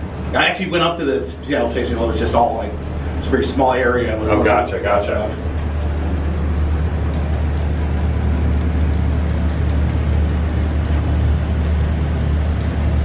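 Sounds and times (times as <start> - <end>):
elevator hum and rumble: 0.0 - 13.0.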